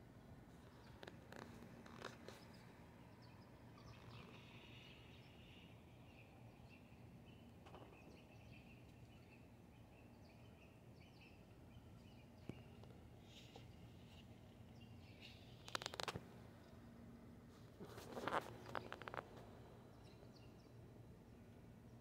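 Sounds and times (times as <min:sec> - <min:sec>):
small birds chirping: 0:00.5 - 0:22.0.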